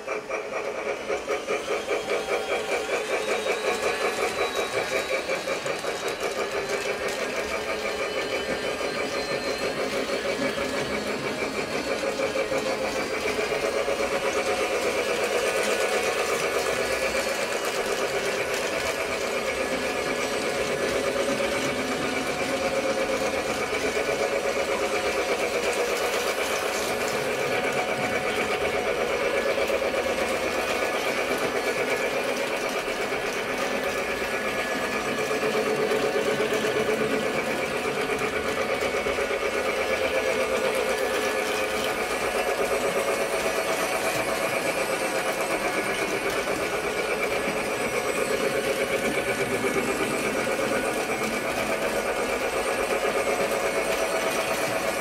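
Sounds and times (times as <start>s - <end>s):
toy train motor whirring: 0.0s - 55.0s
wheels rattling over track: 0.0s - 55.0s.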